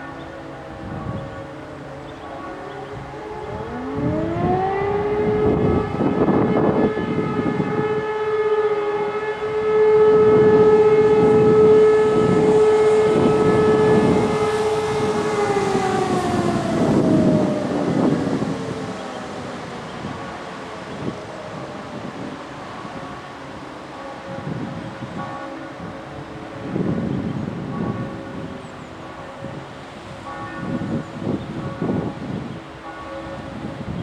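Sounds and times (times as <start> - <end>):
civil defence siren wailing: 0.0 - 34.0
wind buffeting microphone: 0.0 - 34.0.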